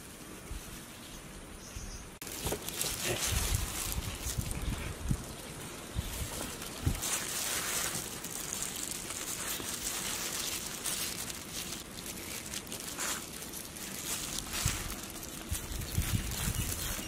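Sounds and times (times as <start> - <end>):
plastic gloves rustling: 0.0 - 1.3, 2.2 - 17.0
outdoor background noise: 0.0 - 17.0.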